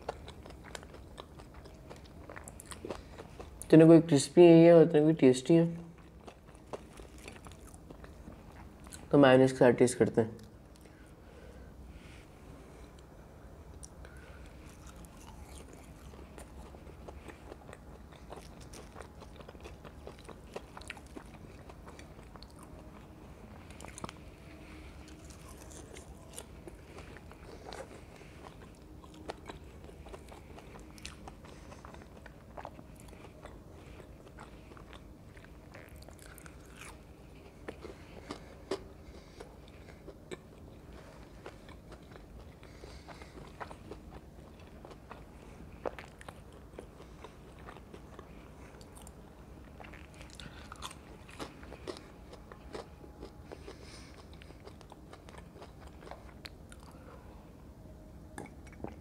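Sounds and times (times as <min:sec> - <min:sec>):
biting and chewing fries: 0:00.0 - 0:04.1, 0:05.9 - 0:09.2, 0:12.8 - 0:57.2.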